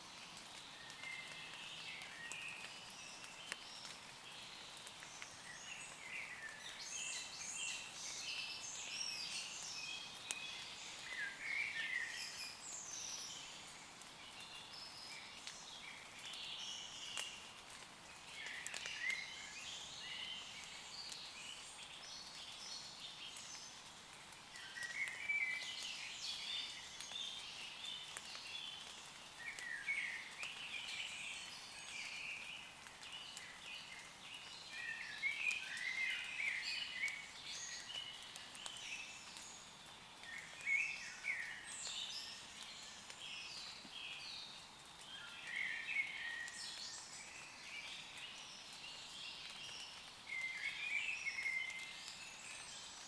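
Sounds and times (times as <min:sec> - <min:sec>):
faint rain patter on leaves: 0:00.0 - 0:53.0
woodland birds singing: 0:00.0 - 0:53.0.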